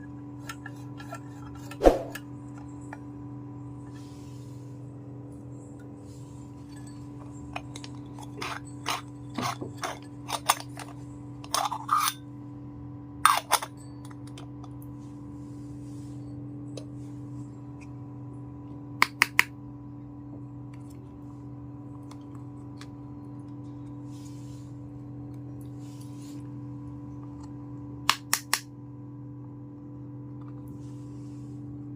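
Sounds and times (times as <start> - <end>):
electrical hum: 0.0 - 31.9.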